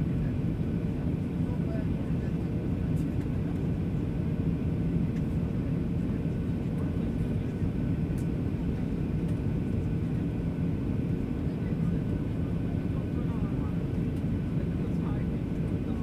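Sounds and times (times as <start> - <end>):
airplane engines rumbling in cabin: 0.0 - 16.0.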